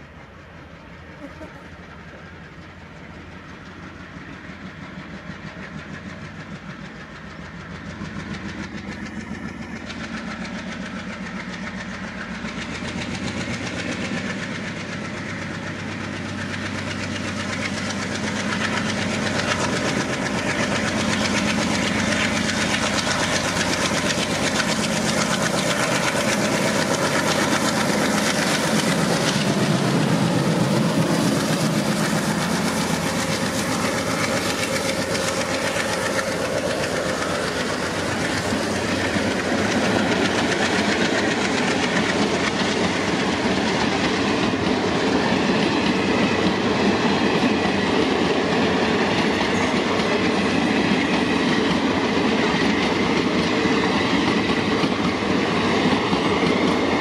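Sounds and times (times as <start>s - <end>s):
diesel locomotive engines chugging: 0.0s - 57.0s
wheels clattering on rail: 0.0s - 57.0s.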